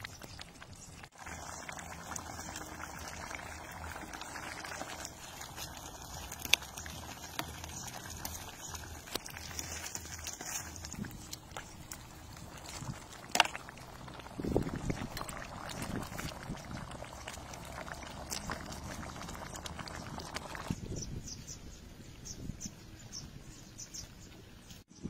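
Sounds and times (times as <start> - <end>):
curry bubbling in a pan: 0.0 - 20.8.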